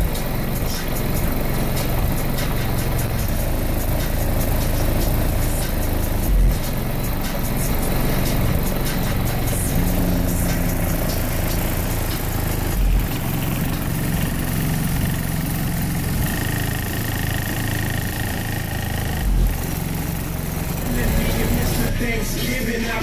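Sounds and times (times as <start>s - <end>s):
deep bass from car subwoofers: 0.0s - 23.0s.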